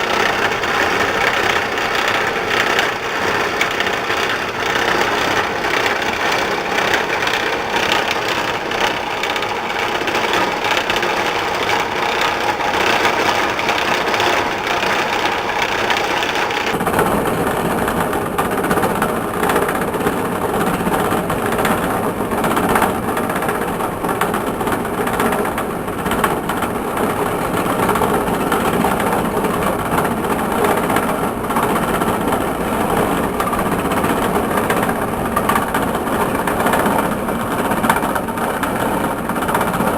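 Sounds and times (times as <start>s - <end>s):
machine running steadily: 0.0s - 39.9s.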